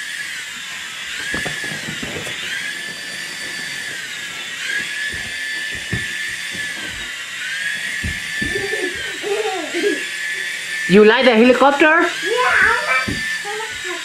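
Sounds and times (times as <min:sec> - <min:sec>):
toy helicopter rotor motor whining: 0:00.0 - 0:14.0.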